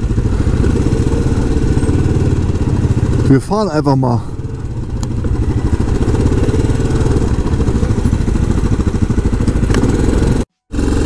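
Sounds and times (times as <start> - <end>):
quad engine running at low revs: 0.0 - 11.0.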